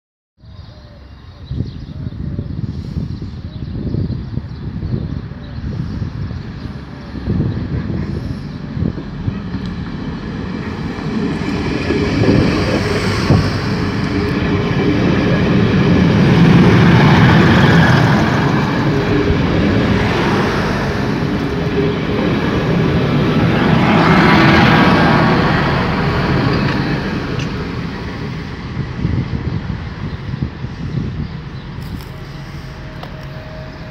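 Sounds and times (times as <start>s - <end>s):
wheels rumbling on rails: 3.9s - 33.9s
diesel engine drone: 5.6s - 33.9s.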